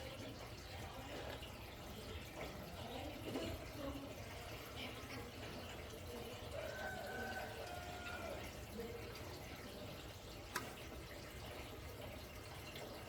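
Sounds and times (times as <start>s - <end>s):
faint running water: 0.0s - 13.0s.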